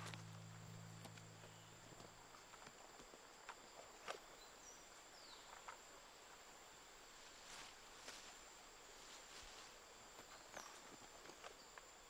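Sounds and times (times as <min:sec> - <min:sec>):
faint forest ambience: 0:00.0 - 0:12.0.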